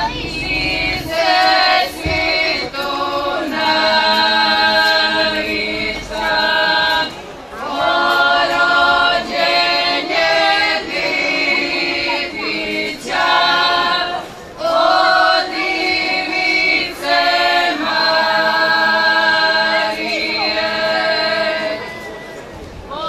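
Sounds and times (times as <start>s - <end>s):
women singing folk song unaccompanied: 0.0s - 23.0s.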